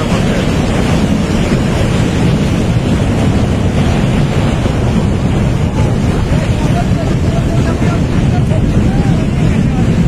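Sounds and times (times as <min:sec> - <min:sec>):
floodwater and rocks rushing: 0:00.0 - 0:10.0.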